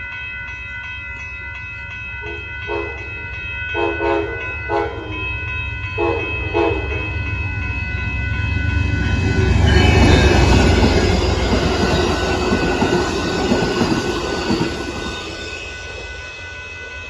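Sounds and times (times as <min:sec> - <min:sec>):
passenger train passing: 0:00.0 - 0:17.0.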